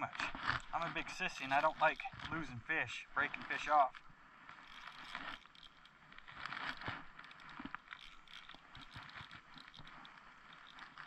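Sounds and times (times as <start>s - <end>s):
clothing and gear rustling: 0.0s - 11.0s.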